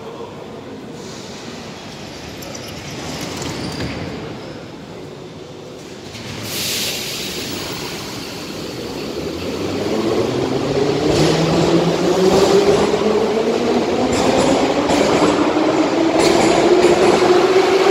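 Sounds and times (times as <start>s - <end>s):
train running noise: 1.0s - 17.9s.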